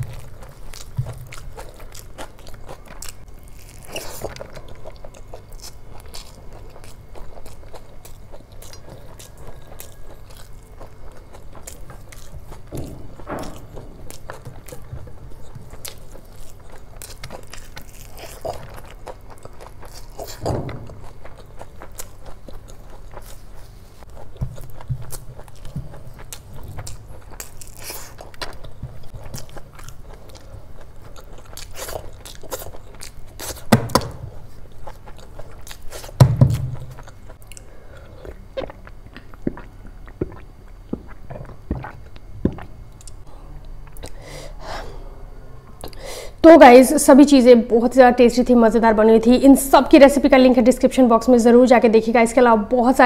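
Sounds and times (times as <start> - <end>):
chewing with mouth smacks: 0.0 - 33.7, 34.3 - 44.2.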